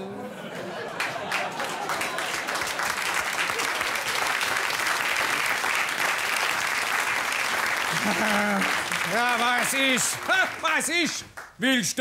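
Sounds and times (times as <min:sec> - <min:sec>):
audience applauding: 0:00.6 - 0:11.6.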